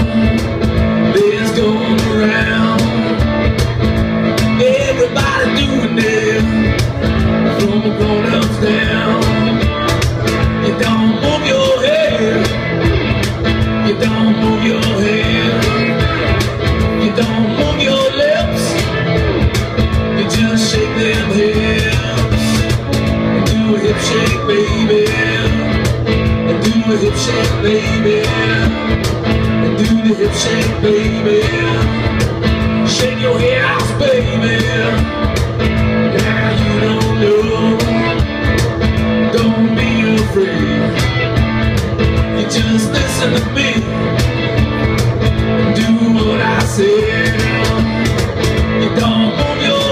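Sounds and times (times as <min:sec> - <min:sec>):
person singing: 0:00.0 - 0:03.4, 0:04.2 - 0:12.7, 0:13.6 - 0:35.3, 0:35.9 - 0:41.4, 0:42.0 - 0:49.9
bass: 0:00.0 - 0:49.9
drum beat: 0:00.0 - 0:49.9
electric guitar: 0:00.0 - 0:49.9.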